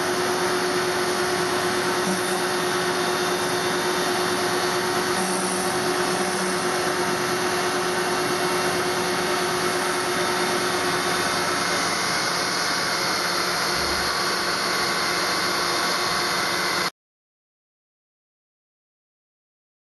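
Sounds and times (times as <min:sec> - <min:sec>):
router machine hiss and whine: 0:00.0 - 0:16.9.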